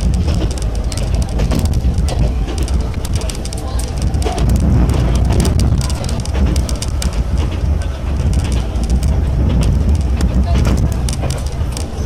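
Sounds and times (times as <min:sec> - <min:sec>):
light clicks and rattles: 0:00.0 - 0:12.0
train wheels rumbling on rails: 0:00.0 - 0:12.0.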